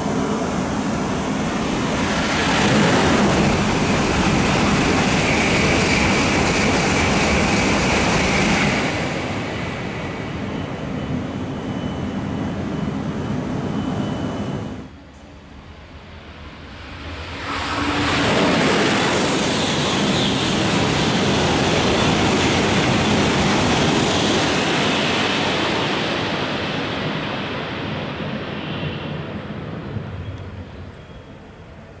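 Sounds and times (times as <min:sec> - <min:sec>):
high-speed train passing: 0:00.0 - 0:32.0.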